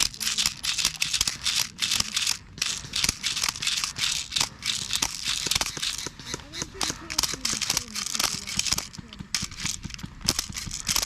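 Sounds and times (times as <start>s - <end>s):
irregular rattling and crackling: 0.0s - 11.0s.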